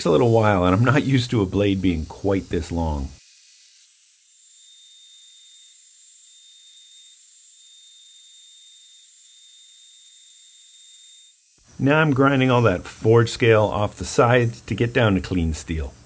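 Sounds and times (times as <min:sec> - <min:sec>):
belt grinder grinding steel: 0:00.0 - 0:12.9.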